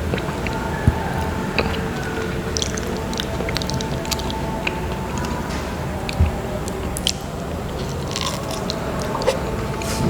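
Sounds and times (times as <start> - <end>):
wet chewing: 0.0 - 10.0.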